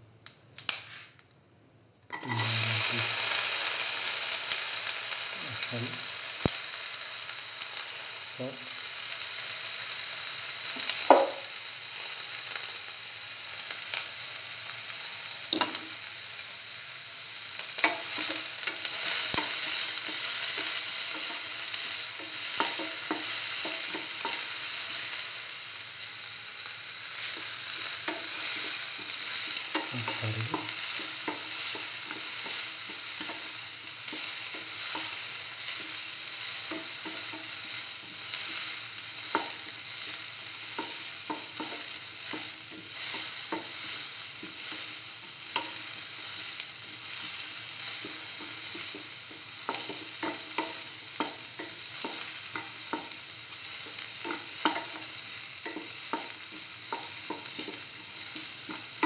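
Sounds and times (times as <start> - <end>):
shallots sizzling in hot oil: 2.1 - 59.0.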